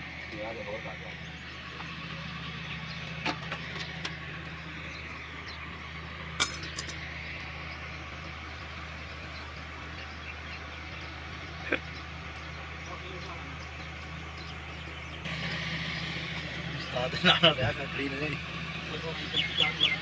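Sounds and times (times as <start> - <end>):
steady low engine hum: 0.0 - 20.0.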